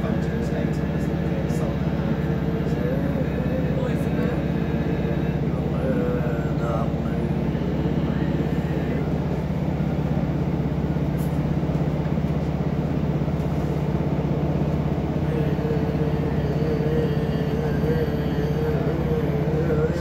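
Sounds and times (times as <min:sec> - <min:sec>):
train drone and rumble inside carriage: 0:00.0 - 0:20.0.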